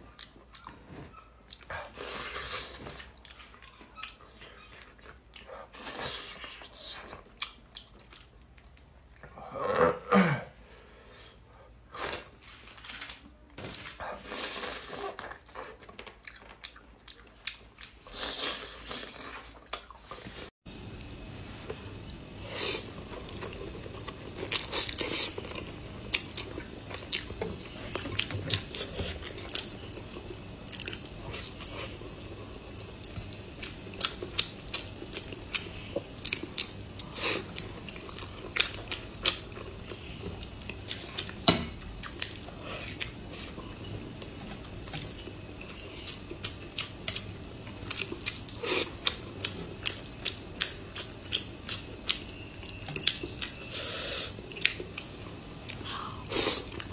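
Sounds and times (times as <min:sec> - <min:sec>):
person chewing: 0:00.1 - 0:09.4, 0:13.7 - 0:20.5, 0:22.0 - 0:56.9.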